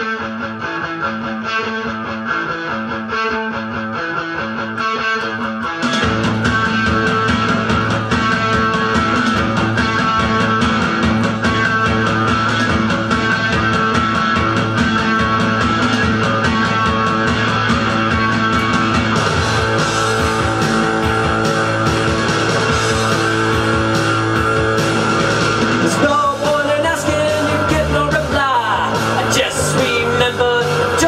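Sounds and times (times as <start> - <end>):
electric guitar: 0.0 - 31.0
drum beat: 5.8 - 31.0.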